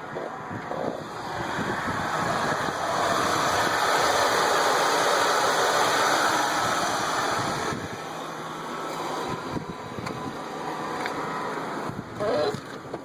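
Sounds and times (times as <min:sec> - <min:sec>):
broad rushing noise: 0:00.0 - 0:12.2
car engine running: 0:00.0 - 0:13.0.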